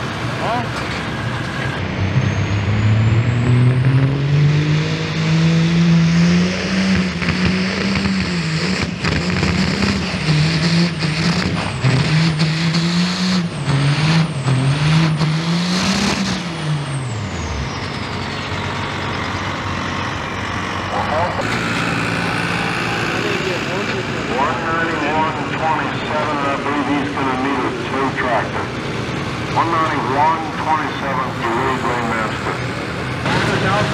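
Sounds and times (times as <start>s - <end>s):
diesel truck engine revving: 0.0s - 33.9s.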